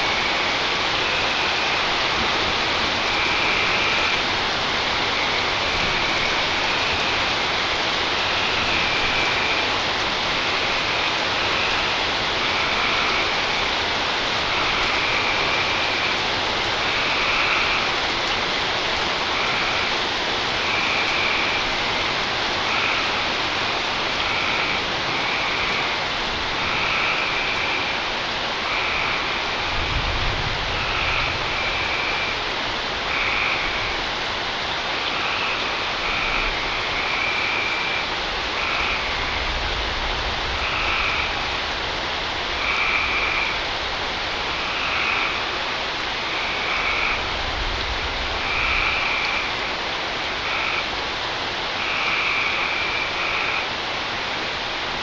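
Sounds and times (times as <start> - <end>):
frogs chirping: 0.0 - 39.8, 40.5 - 41.8, 42.5 - 54.9
heavy rain: 0.0 - 55.0.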